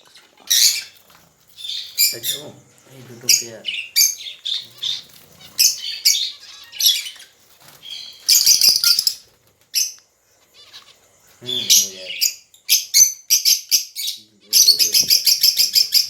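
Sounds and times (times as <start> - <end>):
pet birds chirping: 0.0 - 16.0.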